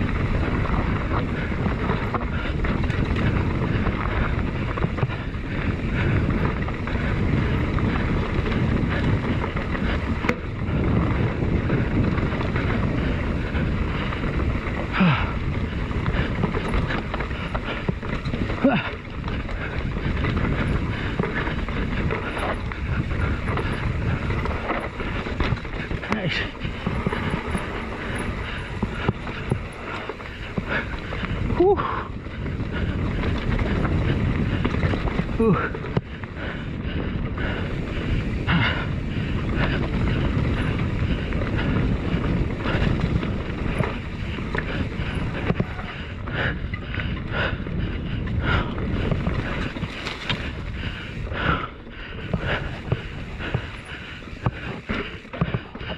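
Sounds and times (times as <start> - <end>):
bike rattling over bumps: 0.0 - 55.9
bike tyres rolling over dirt: 0.0 - 55.9
wind noise on microphone: 0.0 - 55.9.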